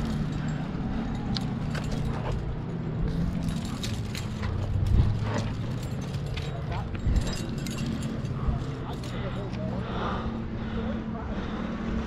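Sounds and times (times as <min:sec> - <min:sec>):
climbing gear clinking: 0:00.0 - 0:10.4
low engine drone: 0:00.0 - 0:12.0.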